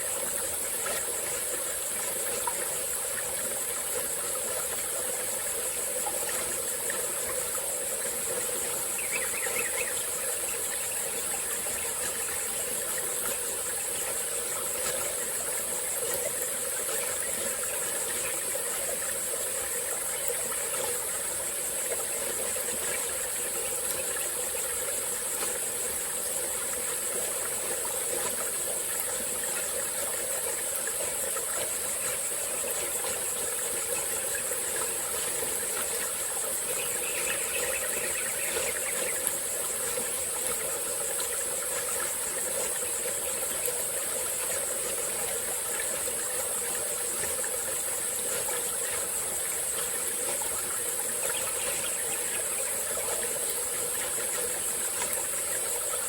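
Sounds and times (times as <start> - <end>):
high-pitched insect chorus: 0.0 - 56.0
stream flowing: 0.0 - 56.0.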